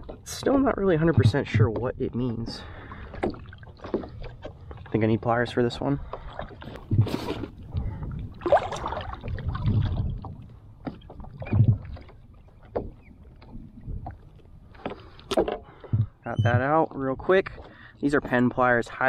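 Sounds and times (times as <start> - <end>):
knocks and clunks on paddleboard: 0.0 - 19.0.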